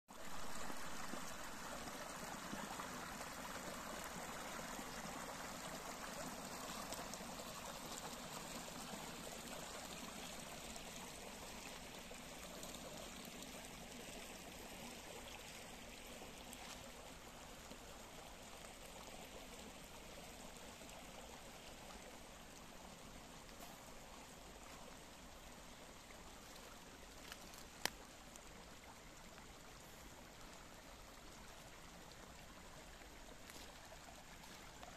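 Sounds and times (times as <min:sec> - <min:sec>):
brook splashing over stones: 0:00.2 - 0:34.9.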